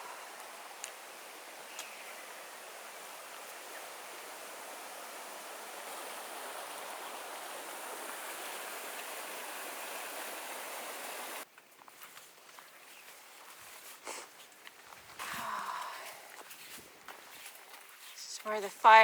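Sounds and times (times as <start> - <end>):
creek water flowing: 0.0 - 19.0.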